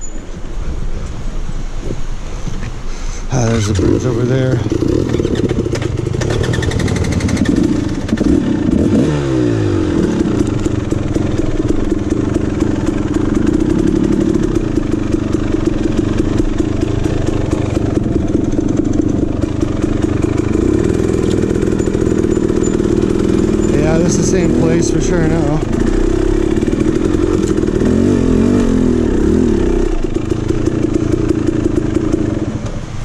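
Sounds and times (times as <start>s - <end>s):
dirt bike engine revving: 3.4s - 32.6s.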